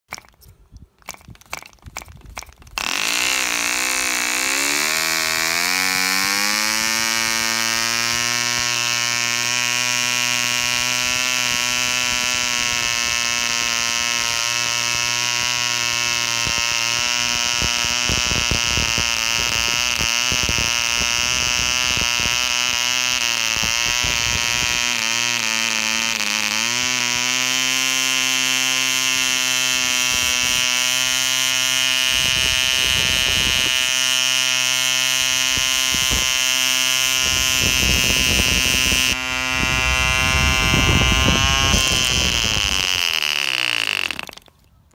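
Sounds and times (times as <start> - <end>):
propeller flicking clicks: 0.1 - 9.9, 10.5 - 44.9
model engine high buzz: 1.5 - 44.7.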